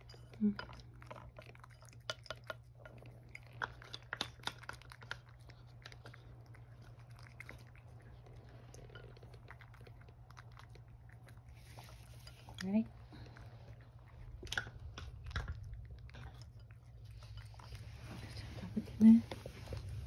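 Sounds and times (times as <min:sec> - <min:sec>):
cat chewing kibble: 0:00.0 - 0:20.0.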